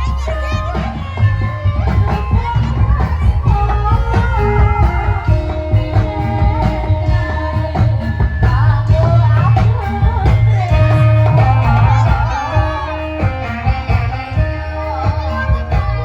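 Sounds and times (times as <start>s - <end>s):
heavy steady drumming: 0.0s - 16.0s
held melodic notes: 0.0s - 16.0s
person singing with wavering pitch: 0.0s - 16.0s.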